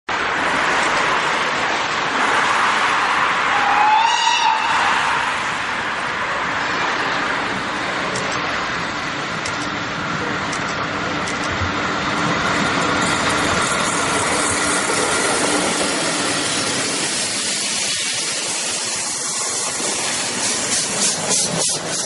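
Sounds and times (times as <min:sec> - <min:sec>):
train rumbling: 0:00.1 - 0:22.0.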